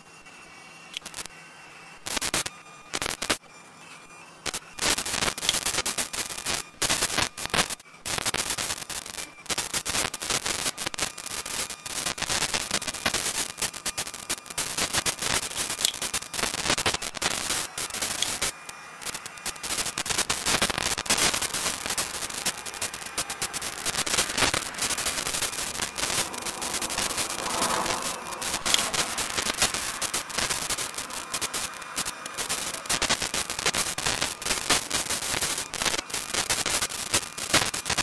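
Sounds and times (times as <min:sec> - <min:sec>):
crackling static with pops: 0:00.9 - 0:01.4, 0:02.0 - 0:03.5, 0:04.4 - 0:38.0.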